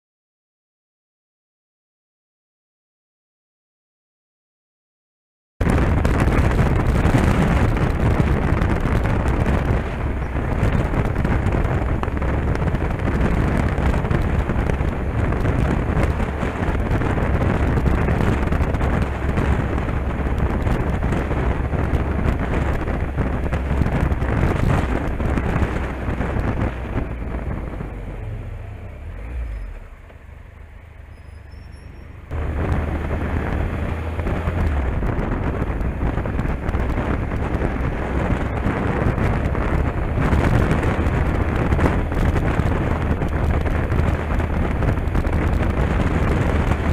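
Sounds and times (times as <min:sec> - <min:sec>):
wind rushing over camera: 0:05.6 - 0:31.1, 0:32.0 - 0:46.9
motorcycle engine droning: 0:05.6 - 0:46.9.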